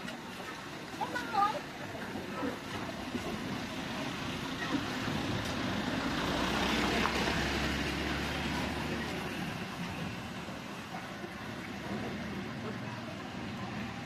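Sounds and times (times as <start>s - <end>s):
engine droning as it passes: 2.4s - 14.0s.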